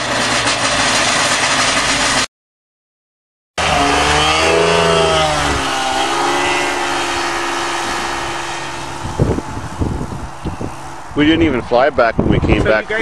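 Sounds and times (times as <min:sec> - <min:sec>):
propeller plane engine droning: 0:00.0 - 0:02.3, 0:03.6 - 0:13.0.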